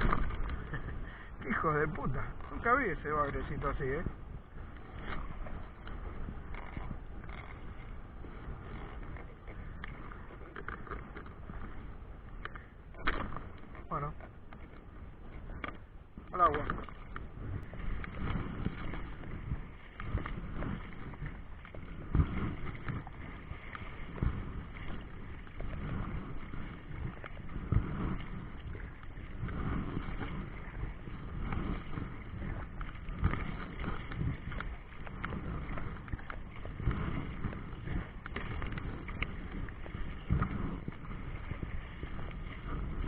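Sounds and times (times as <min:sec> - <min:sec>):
choppy river water: 0:00.0 - 0:43.0
wind buffeting microphone: 0:00.0 - 0:43.0.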